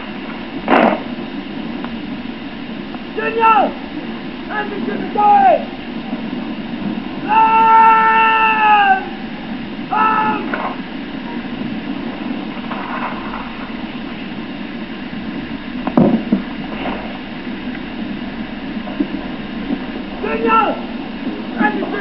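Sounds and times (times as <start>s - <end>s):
outdoor hiss and rumble: 0.0s - 22.0s.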